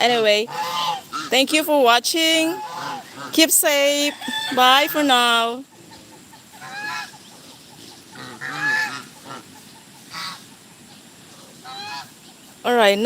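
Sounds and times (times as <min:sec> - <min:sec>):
poultry calling: 0:00.0 - 0:12.9.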